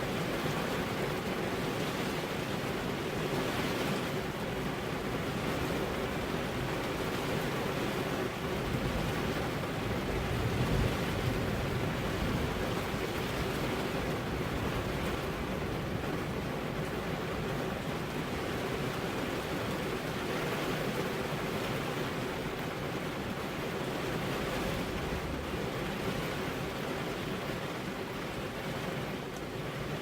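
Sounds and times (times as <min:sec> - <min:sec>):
rain on car window glass: 0:00.0 - 0:30.0.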